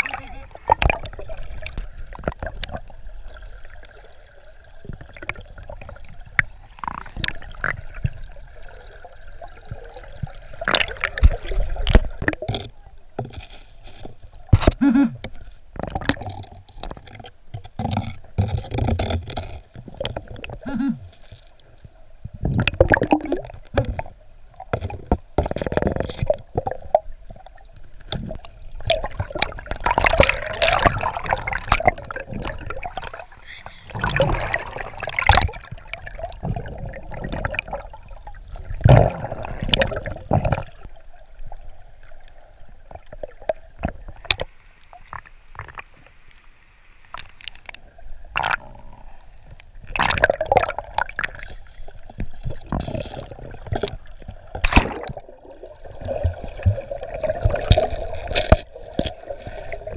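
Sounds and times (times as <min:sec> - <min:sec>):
underwater water gurgling and rushing: 0:00.0 - 0:59.9.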